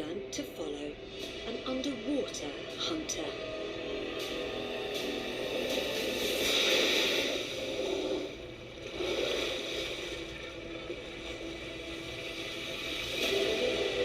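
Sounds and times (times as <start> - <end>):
sea water rushing: 1.0 - 14.0.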